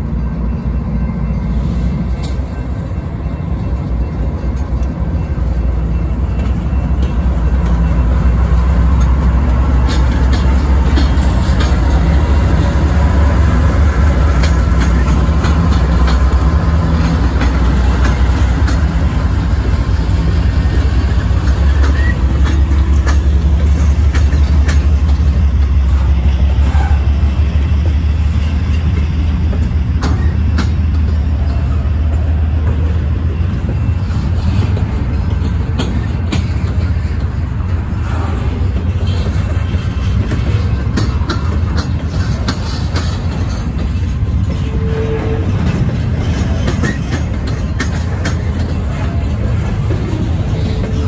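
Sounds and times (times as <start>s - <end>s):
diesel locomotive engine droning: 0.0s - 51.0s
train wheels rumbling: 0.0s - 51.0s
wheels clacking over rail joints: 0.1s - 51.0s.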